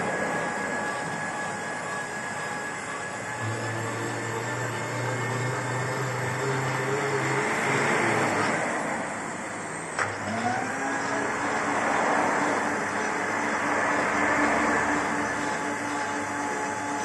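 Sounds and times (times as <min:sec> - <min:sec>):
lathe motor hum and whir: 0:00.0 - 0:17.0.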